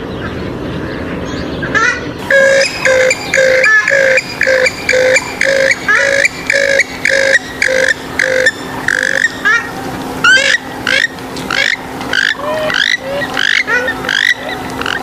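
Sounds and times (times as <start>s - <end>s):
waterbird calls: 1.6s - 15.0s.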